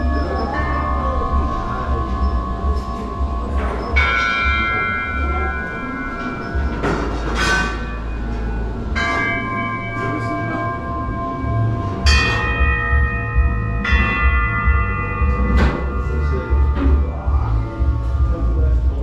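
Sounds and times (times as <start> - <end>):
bells ringing: 0.0 - 19.0.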